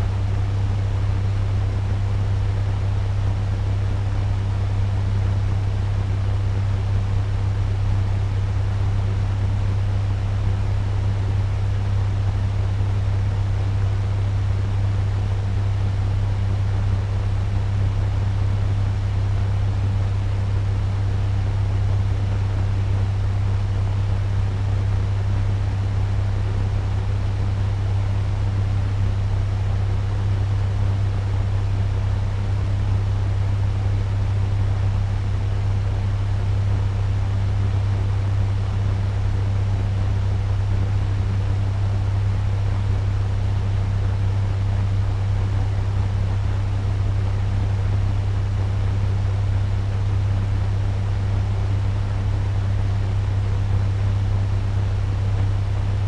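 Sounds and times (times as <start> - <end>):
fan running: 0.0 - 56.0.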